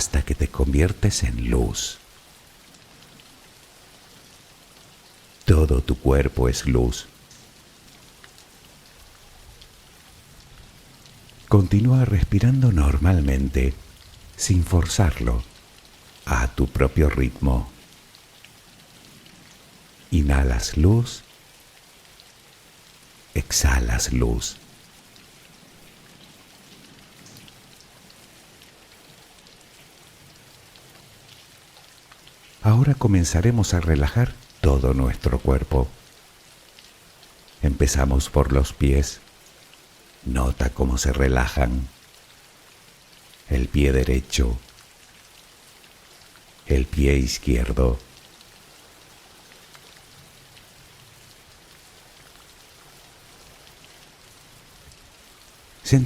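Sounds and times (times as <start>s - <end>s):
pattering raindrops: 0.0s - 56.0s
soft rain falling: 0.0s - 56.0s.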